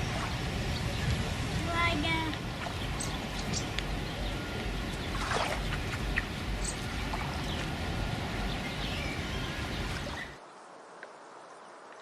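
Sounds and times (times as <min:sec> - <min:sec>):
water: 0:00.0 - 0:12.0
wind rumbling on microphone: 0:00.0 - 0:12.0.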